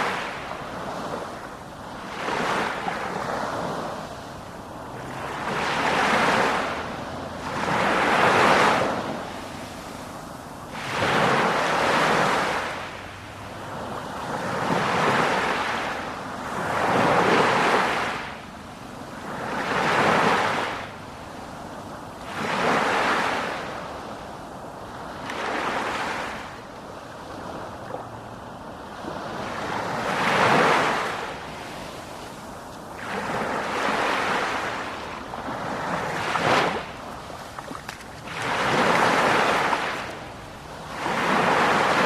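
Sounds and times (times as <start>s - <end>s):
sea waves washing in: 0.0s - 42.0s.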